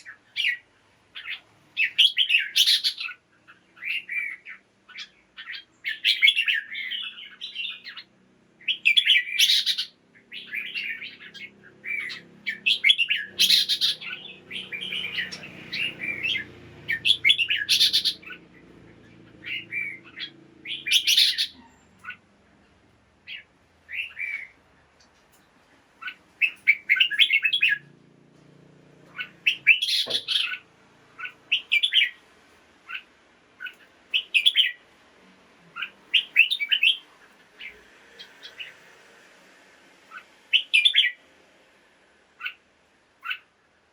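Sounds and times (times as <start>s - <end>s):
bird chirping: 0.0s - 25.2s, 26.0s - 28.0s, 29.0s - 32.2s, 32.8s - 34.8s, 35.7s - 38.9s, 40.1s - 41.2s, 42.4s - 42.6s, 43.2s - 43.5s.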